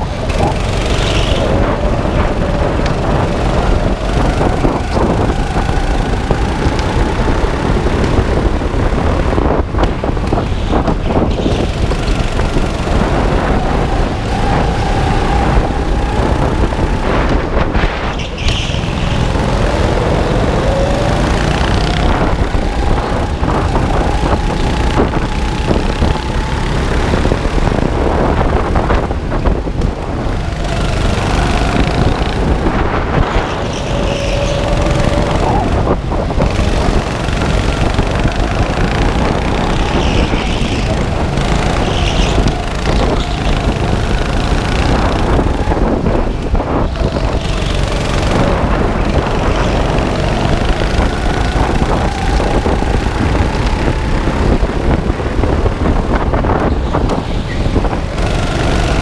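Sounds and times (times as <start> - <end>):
go-kart engines racing: 0.0 - 59.0
wind rumble on microphone: 0.0 - 59.0.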